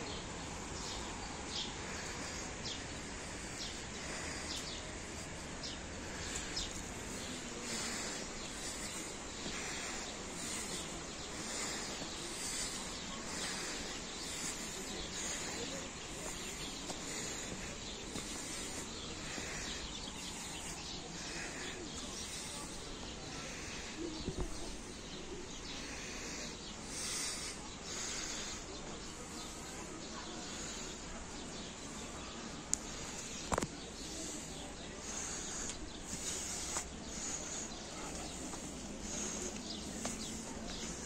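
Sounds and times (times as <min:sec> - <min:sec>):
birds chirping: 0:00.0 - 0:41.0
distant background noise: 0:00.0 - 0:41.0.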